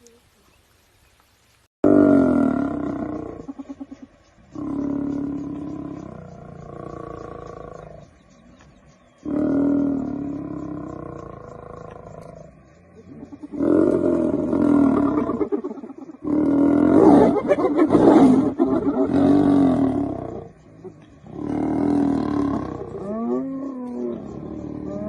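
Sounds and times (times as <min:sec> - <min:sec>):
lions growling and roaring: 0:01.9 - 0:25.0.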